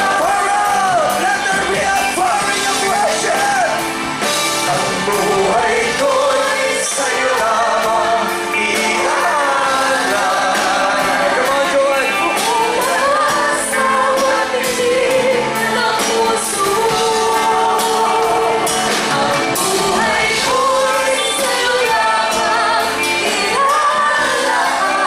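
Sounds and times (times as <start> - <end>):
group singing worship song: 0.0 - 25.0
live band playing: 0.0 - 25.0.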